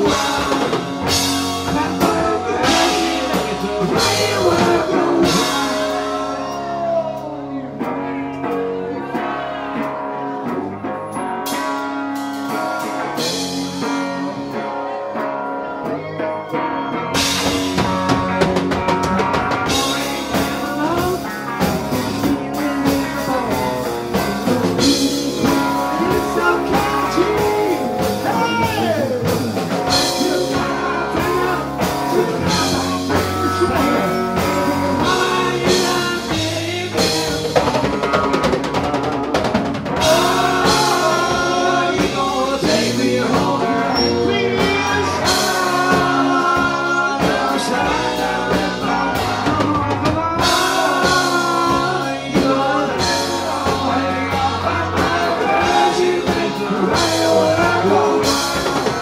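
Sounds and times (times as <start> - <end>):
bass guitar: 0.0 - 59.0
drum kit: 0.0 - 59.0
electric guitar: 0.0 - 59.0
person singing: 0.0 - 59.0.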